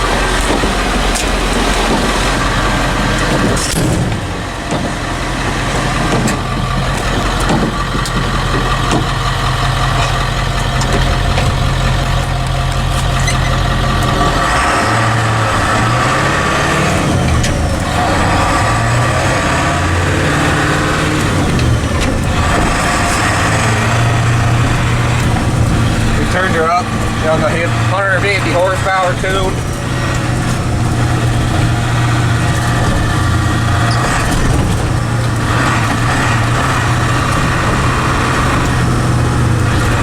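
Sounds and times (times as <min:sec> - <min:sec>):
diesel truck engine revving: 0:00.0 - 0:40.0.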